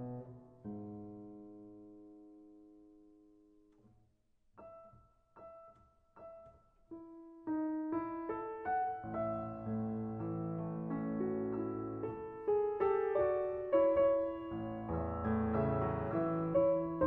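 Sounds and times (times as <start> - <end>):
solo piano playing: 0.0 - 3.7, 4.6 - 17.0.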